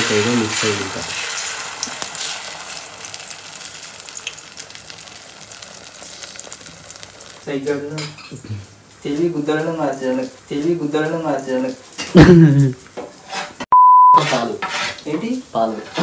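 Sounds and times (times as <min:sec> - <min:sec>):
food sizzling in a pan: 0:00.0 - 0:13.6, 0:14.3 - 0:16.0.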